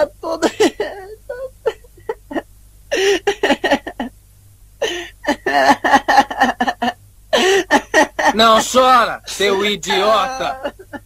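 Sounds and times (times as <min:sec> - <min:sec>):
man sobbing: 0:00.2 - 0:04.1, 0:04.8 - 0:08.7, 0:09.3 - 0:11.0.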